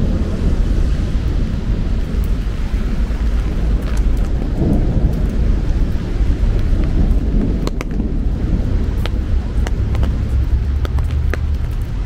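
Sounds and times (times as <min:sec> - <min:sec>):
heavy low rumble: 0:00.0 - 0:12.0
rain falling on a street: 0:00.0 - 0:12.0.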